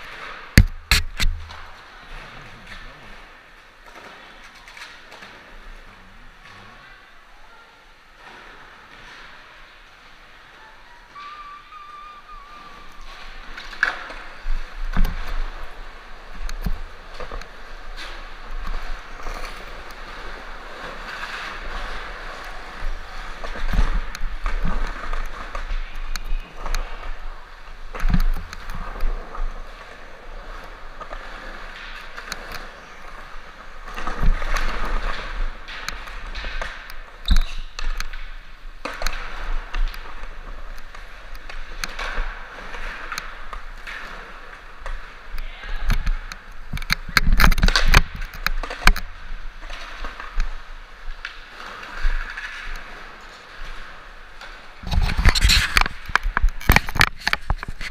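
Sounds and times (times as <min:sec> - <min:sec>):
skateboards clacking on concrete: 0:00.0 - 0:06.8, 0:08.0 - 0:57.9
skateboard wheels rolling on concrete: 0:00.0 - 0:57.9.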